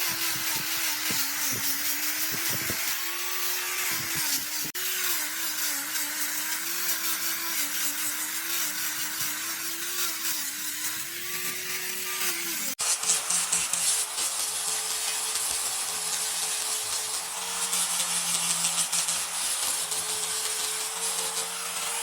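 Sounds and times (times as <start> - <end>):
hiss of cutting wood: 0.0 - 22.0
power tool motor humming: 0.0 - 22.0.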